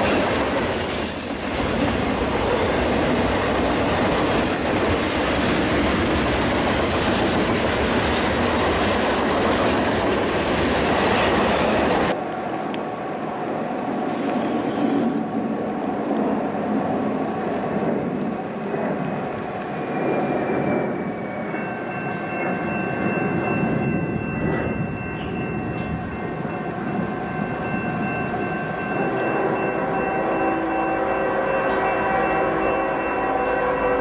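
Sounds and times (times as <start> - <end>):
freight train rumble: 0.0 - 34.0.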